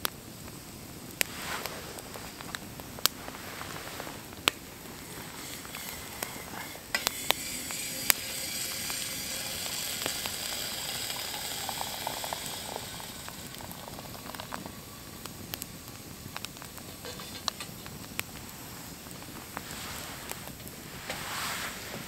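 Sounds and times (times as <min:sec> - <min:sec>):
food sizzling in a pan: 0:00.0 - 0:22.0
sharp pops: 0:01.1 - 0:21.3.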